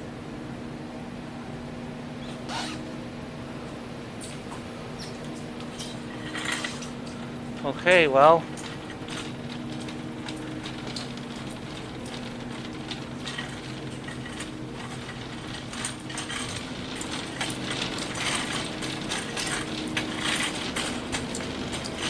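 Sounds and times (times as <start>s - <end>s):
steady low hum: 0.0s - 22.0s
light clicking and rattling: 4.2s - 22.0s.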